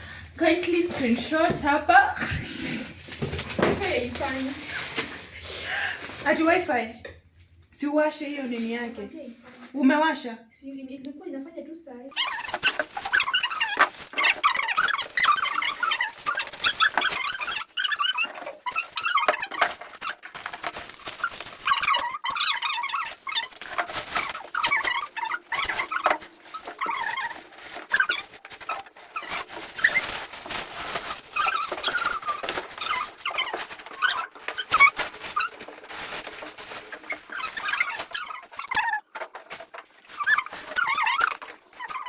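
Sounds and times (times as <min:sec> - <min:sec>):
packaging rustling: 0:00.6 - 0:06.6, 0:12.2 - 0:42.0
foam packing squeaking: 0:02.5 - 0:06.6, 0:12.2 - 0:42.0.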